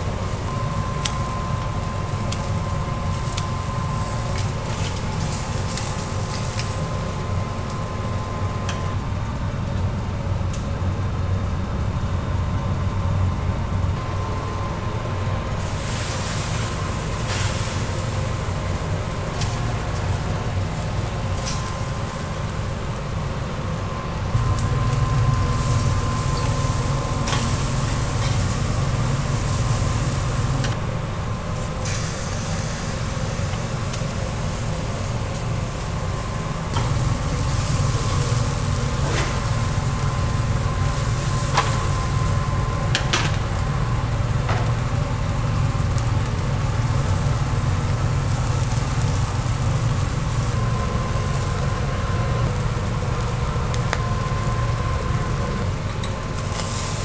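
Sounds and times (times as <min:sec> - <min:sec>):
fish sizzling on grill: 0:00.0 - 0:08.6, 0:15.6 - 0:57.0
burner rumble: 0:00.0 - 0:57.0.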